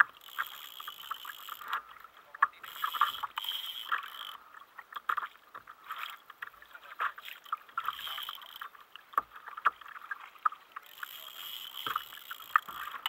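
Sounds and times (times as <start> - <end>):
water splashes: 0.0 - 13.0
waves lapping against kayak hull: 0.0 - 13.0.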